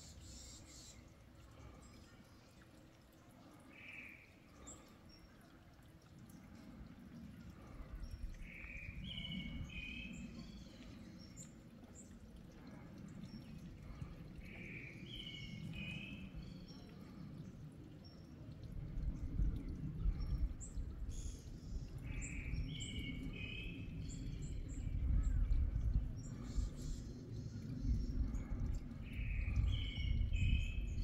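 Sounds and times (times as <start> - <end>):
songbirds calling: 0.0 - 31.0.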